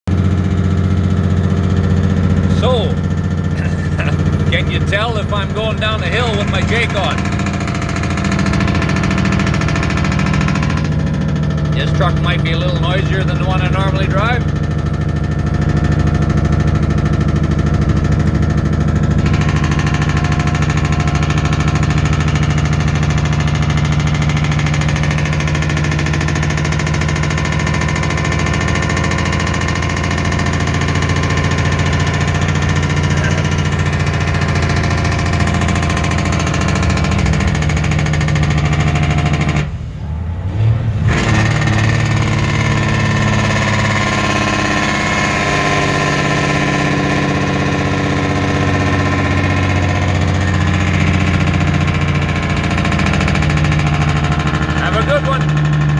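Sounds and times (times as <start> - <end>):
truck engine brake: 0.2 - 55.9.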